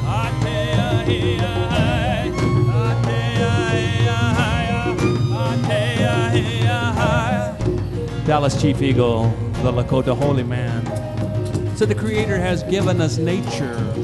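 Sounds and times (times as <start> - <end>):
fusion music with vibrato melody: 0.0 - 14.0.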